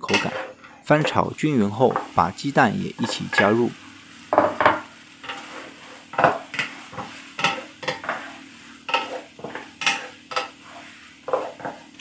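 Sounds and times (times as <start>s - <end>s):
food sizzling: 0.0s - 12.0s
wooden spatula scraping wok: 0.0s - 12.0s.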